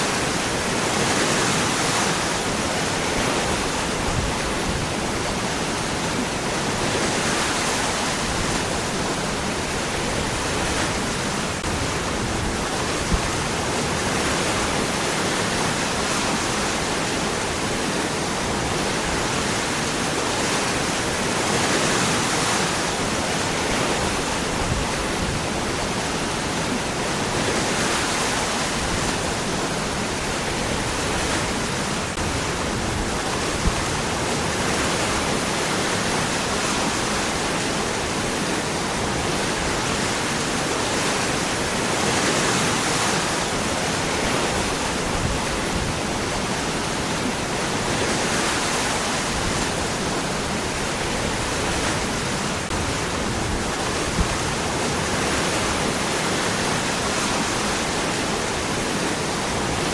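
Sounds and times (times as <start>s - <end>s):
waterfall roaring over rocks: 0.0s - 59.9s.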